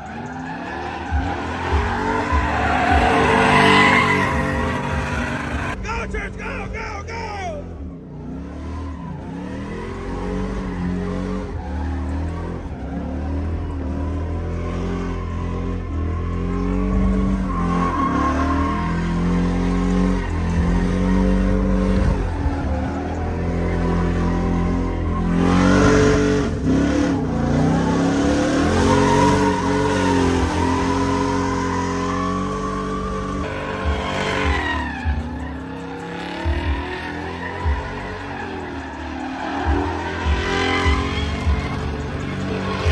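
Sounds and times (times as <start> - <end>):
tires spinning: 0.0 - 42.9
truck engine revving: 0.0 - 42.9.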